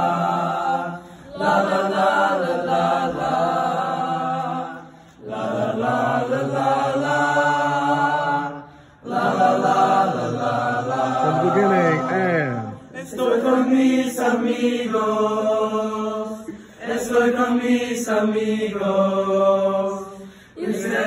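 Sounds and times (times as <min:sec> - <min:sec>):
boys singing unaccompanied: 0:00.0 - 0:21.0.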